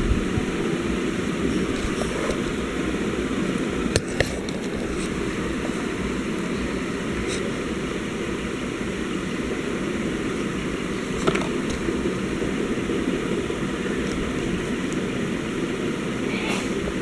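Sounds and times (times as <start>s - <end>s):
background rumble and hiss: 0.0s - 17.0s.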